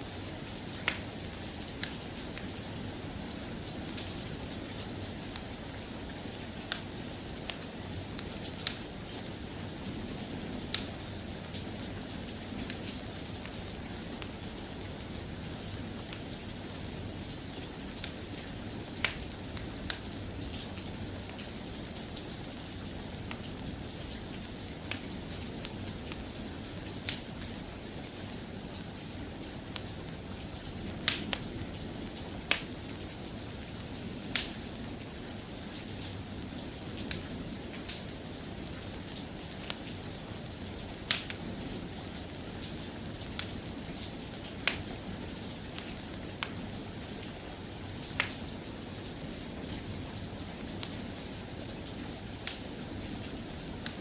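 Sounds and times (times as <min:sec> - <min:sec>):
soft rain hiss: 0:00.0 - 0:54.0.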